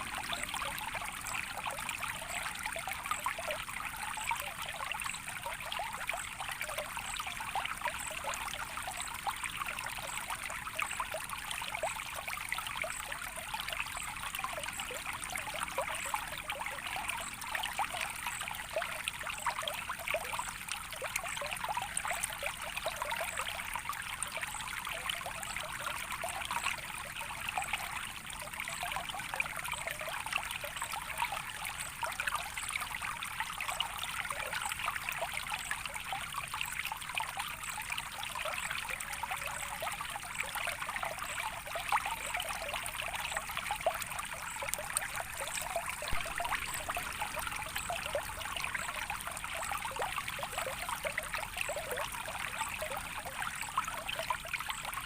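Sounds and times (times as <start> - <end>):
small water splashes: 0.0 - 55.0
water trickling: 0.0 - 55.0.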